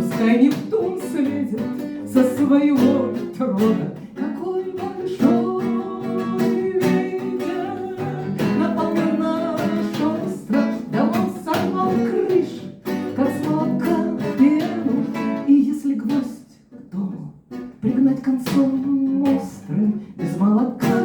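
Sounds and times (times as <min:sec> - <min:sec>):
strummed acoustic guitar: 0:00.0 - 0:21.0
woman singing: 0:00.0 - 0:21.0.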